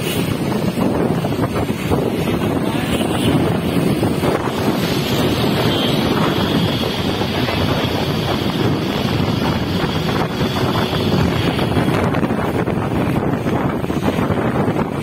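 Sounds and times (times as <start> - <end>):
vehicle and road noise: 0.0 - 15.0
wind buffeting microphone: 0.0 - 15.0.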